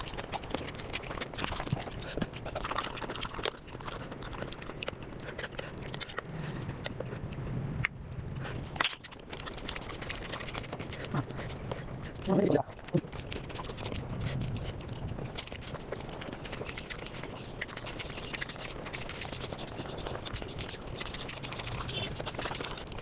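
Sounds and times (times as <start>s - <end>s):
lip-smacking clicks: 0.0s - 23.0s
rapid chewing and crunching: 0.0s - 23.0s.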